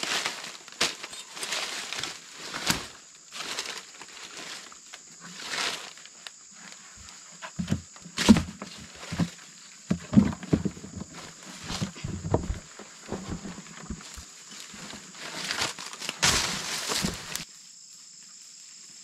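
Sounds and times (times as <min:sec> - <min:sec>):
dry banana leaves rustling: 0:00.0 - 0:17.5.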